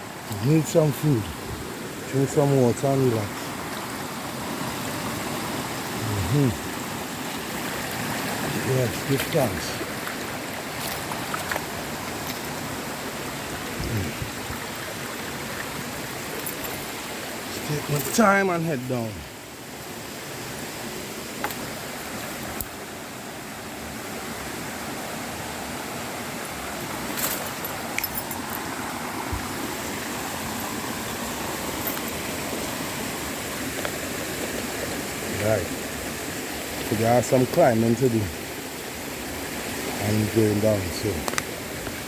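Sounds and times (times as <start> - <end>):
rushing waterfall water: 0.0 - 42.0.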